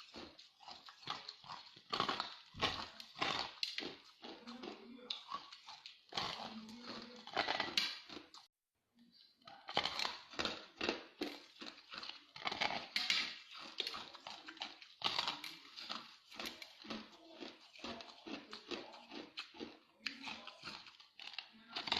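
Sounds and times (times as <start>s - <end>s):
ice being chewed: 0.0s - 8.5s, 9.4s - 21.9s.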